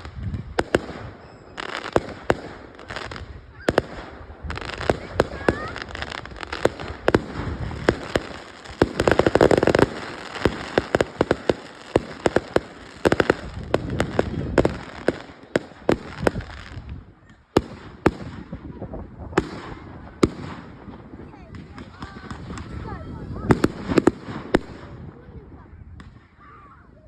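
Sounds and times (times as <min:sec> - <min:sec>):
fireworks bangs and crackle: 0:00.0 - 0:27.0.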